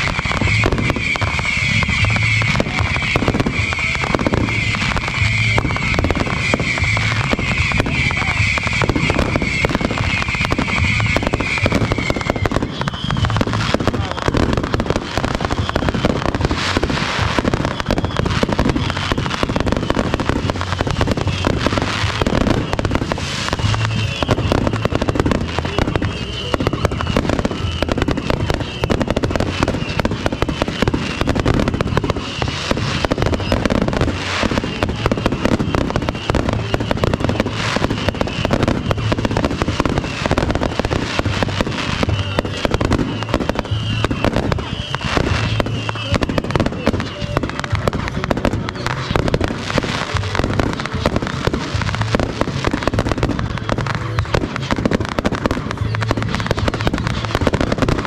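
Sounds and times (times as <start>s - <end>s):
firework bangs and bursts: 0.0s - 58.0s
music playing: 0.0s - 58.0s.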